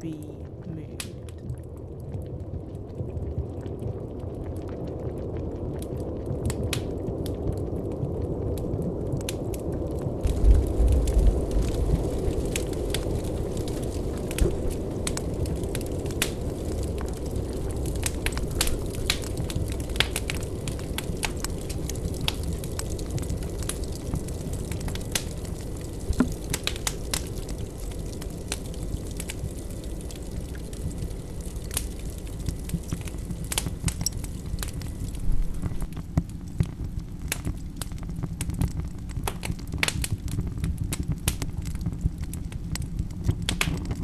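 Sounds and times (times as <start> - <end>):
steady low rumble: 0.0 - 39.2
crackling and popping: 0.0 - 44.0.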